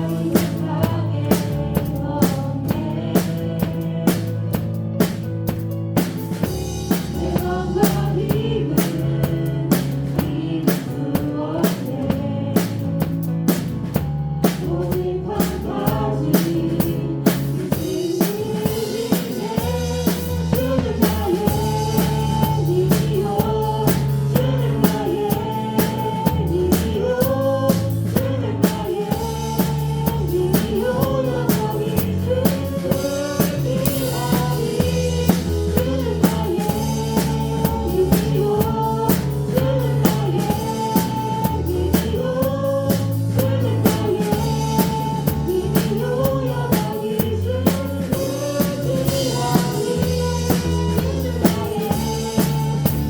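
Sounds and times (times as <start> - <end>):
voices singing: 0.0 - 5.1, 6.5 - 13.6, 14.4 - 53.0
bass and keyboard: 0.0 - 53.0
drum kit beat: 0.0 - 53.0.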